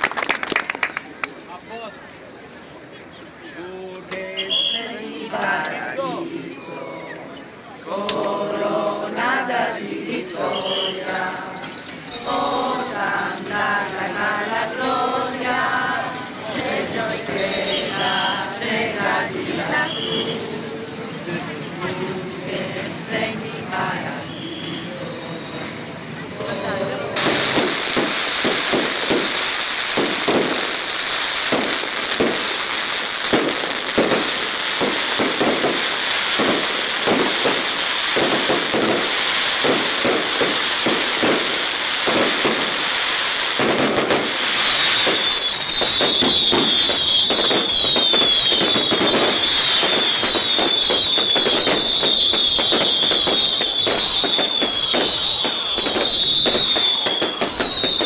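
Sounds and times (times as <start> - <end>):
whistling fireworks: 4.2 - 7.5, 9.0 - 58.0
fireworks bangs and crackling: 7.8 - 58.0.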